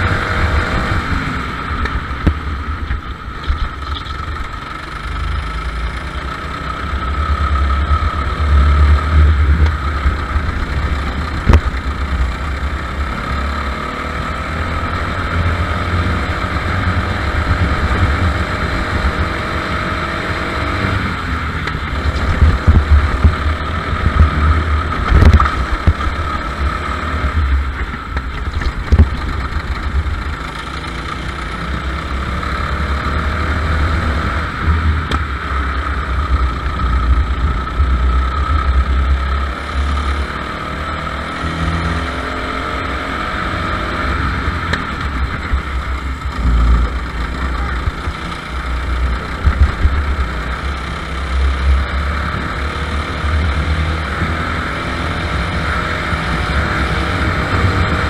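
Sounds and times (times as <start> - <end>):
go-kart engine revving: 0.0 - 58.0
heavy low rumble: 0.0 - 58.0.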